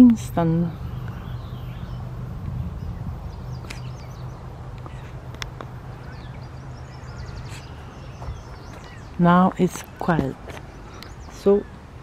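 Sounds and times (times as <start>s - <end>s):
steady low rumble: 0.0s - 12.0s
faint bird chirps: 0.7s - 2.1s, 2.7s - 11.8s.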